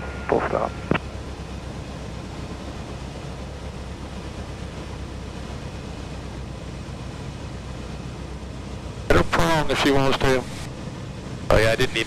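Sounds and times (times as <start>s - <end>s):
propeller plane engine running: 0.0s - 12.0s.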